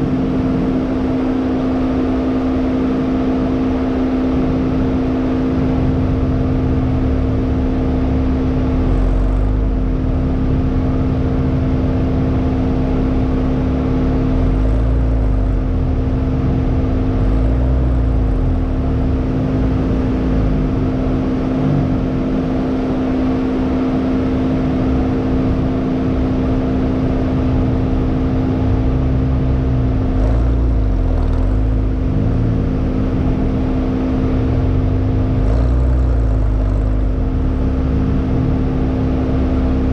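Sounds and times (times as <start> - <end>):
car engine revving: 0.0 - 39.9
wind and road noise: 0.0 - 39.9.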